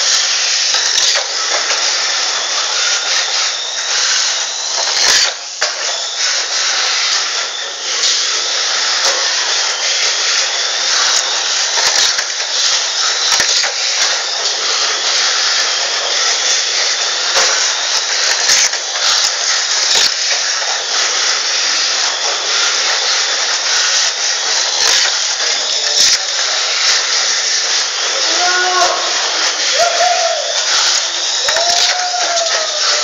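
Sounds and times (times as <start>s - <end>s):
small electric motors whirring: 0.0s - 33.0s.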